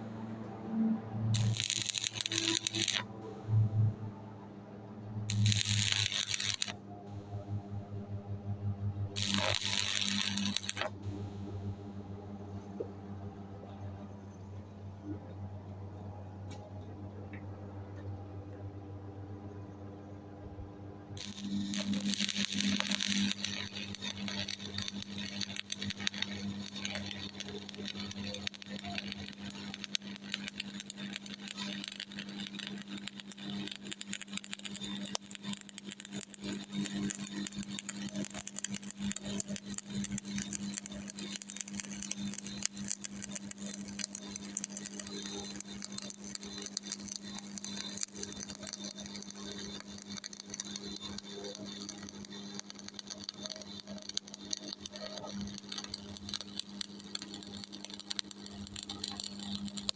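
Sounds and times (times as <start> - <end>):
welding arc crackling: 0.0 - 4.2, 5.0 - 12.0, 21.1 - 59.9
steady low hum: 0.0 - 57.6.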